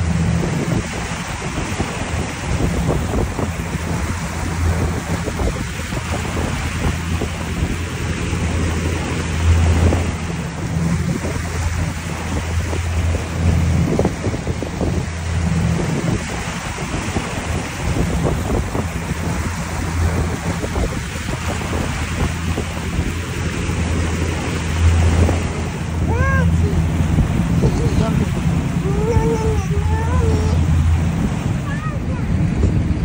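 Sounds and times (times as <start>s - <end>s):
motorboat engine humming: 0.0s - 33.0s
water rushing past hull: 0.0s - 33.0s
wind buffeting microphone: 0.0s - 33.0s.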